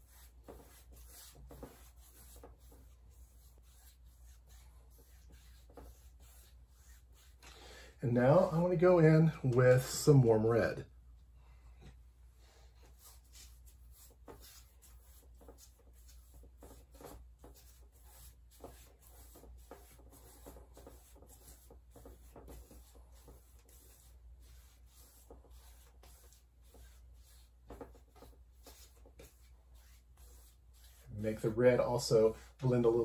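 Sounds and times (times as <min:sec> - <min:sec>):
paintbrush scratching on canvas: 0:00.0 - 0:07.4, 0:12.8 - 0:33.0.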